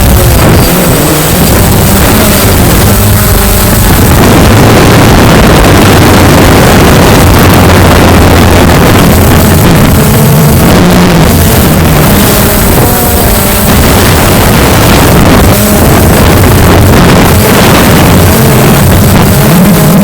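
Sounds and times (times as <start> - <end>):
drone propellers humming: 0.0 - 20.0
wind buffeting microphone: 0.0 - 20.0.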